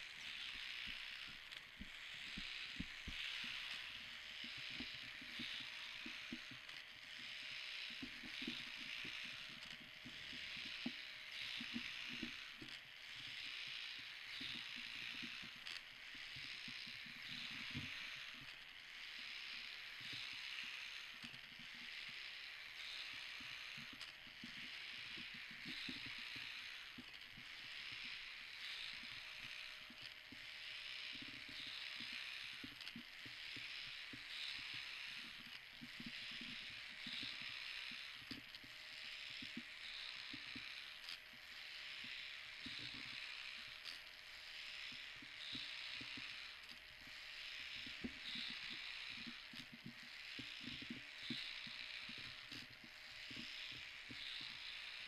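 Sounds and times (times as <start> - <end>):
robot motors whirring and clicking: 0.0 - 55.0.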